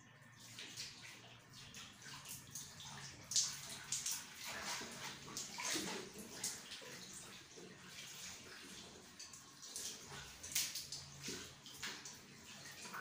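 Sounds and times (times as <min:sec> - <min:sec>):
water splashing in basin: 0:00.4 - 0:13.0.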